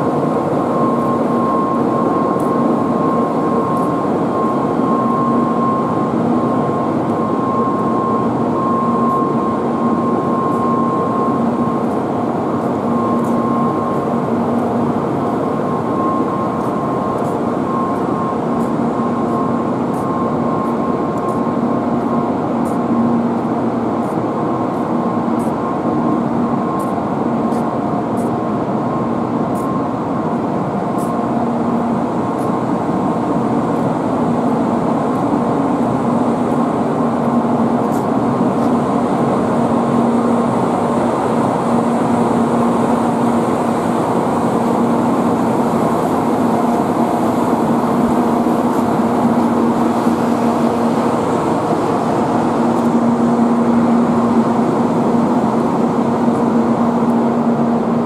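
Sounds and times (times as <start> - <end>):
faint steady whine: 0.0 - 58.0
train humming at platform: 0.0 - 58.0.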